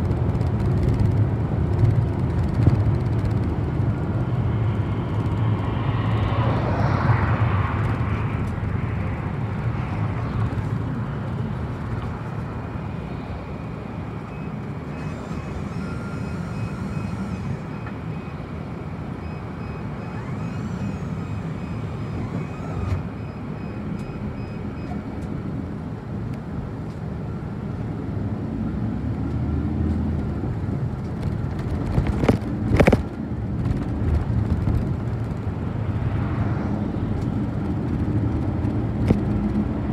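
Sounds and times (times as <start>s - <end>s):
bus engine and tyre rumble: 0.0s - 39.9s.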